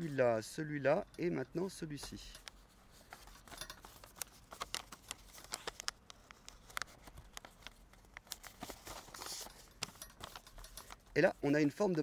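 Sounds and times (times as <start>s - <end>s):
paper being folded and creased: 2.0s - 11.6s.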